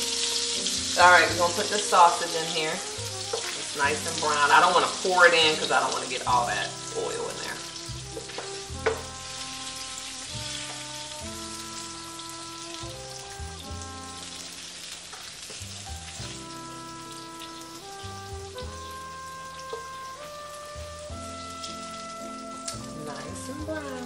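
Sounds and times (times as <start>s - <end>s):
sausage sizzling in frying pan: 0.0s - 24.0s
soft background music: 0.0s - 24.0s.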